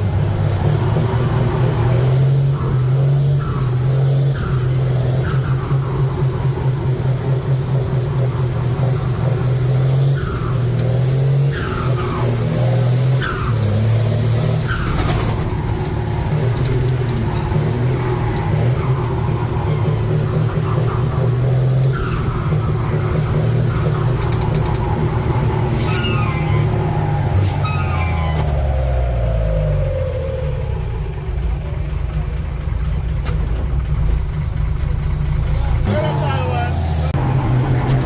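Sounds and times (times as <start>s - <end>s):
truck engine droning: 0.0s - 38.0s.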